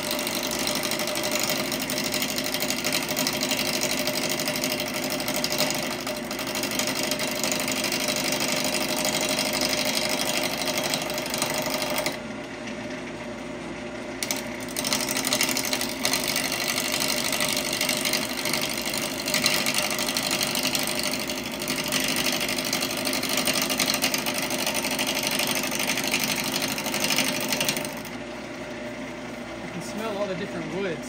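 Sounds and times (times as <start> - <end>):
wood lathe running: 0.0 - 12.9, 14.2 - 28.3.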